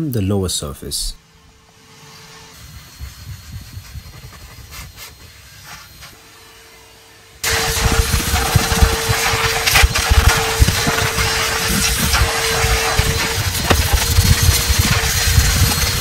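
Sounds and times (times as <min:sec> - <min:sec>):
vacuum cleaner running: 0:01.3 - 0:16.0.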